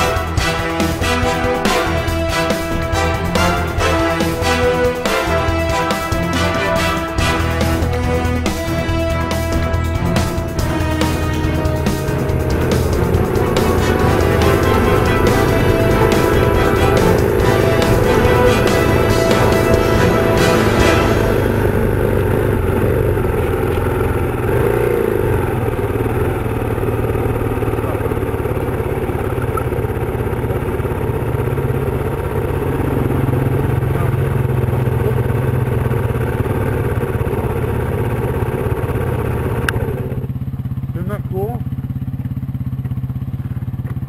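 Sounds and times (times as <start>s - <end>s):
motorcycle engine running: 0.0s - 44.0s
road noise: 0.0s - 44.0s.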